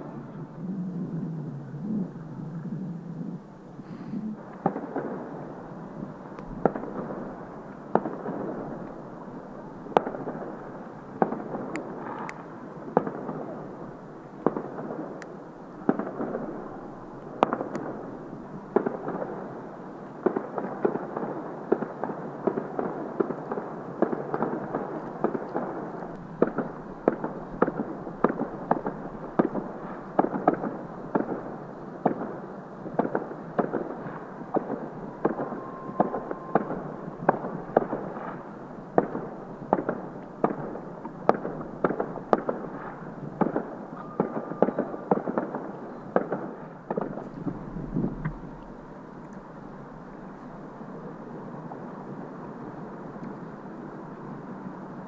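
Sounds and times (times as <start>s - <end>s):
fireworks crackling: 3.6s - 55.0s
fireworks bangs: 3.9s - 49.0s.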